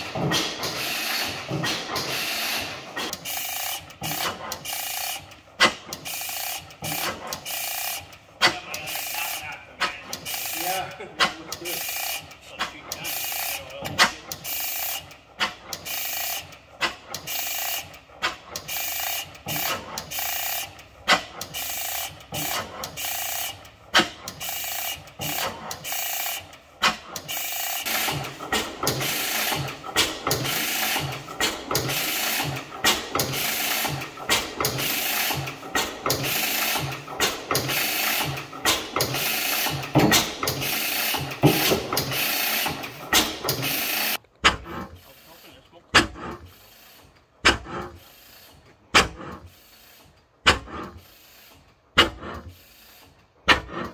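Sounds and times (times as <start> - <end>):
stationary engine running: 0.0 - 46.8.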